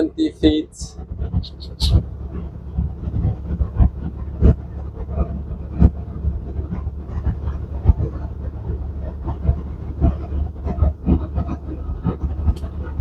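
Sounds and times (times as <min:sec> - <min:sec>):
diesel truck engine droning: 0:00.0 - 0:13.0
knocks and rattles in cab: 0:00.0 - 0:13.0.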